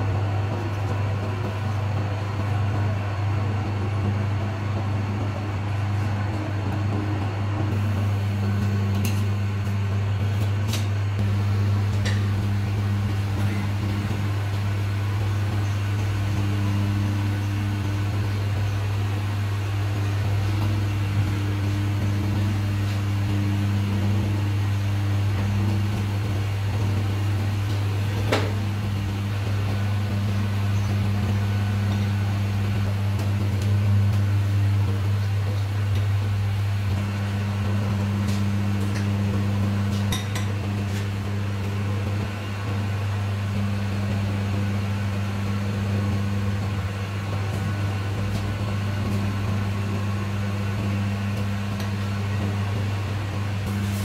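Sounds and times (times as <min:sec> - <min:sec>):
lathe motor hum: 0:00.0 - 0:54.0.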